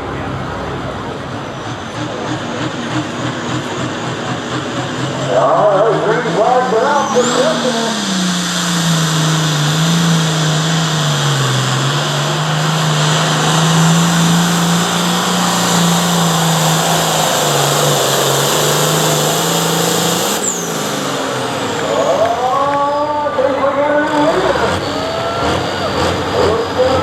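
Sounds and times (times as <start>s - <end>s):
tractor engine at high revs: 0.0s - 27.0s.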